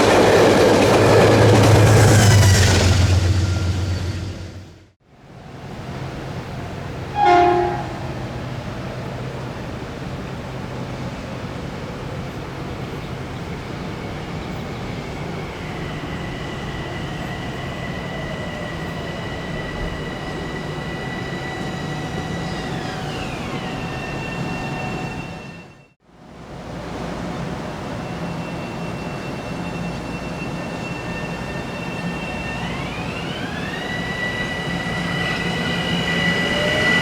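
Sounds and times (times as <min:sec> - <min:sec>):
high train whine: 0:00.0 - 0:37.0
train rolling rumble: 0:00.0 - 0:37.0.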